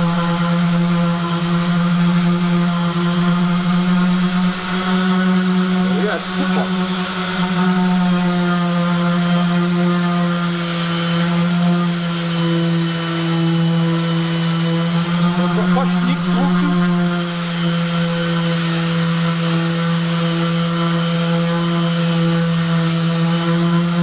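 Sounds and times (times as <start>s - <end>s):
orbit sander sanding wood: 0.0s - 24.0s.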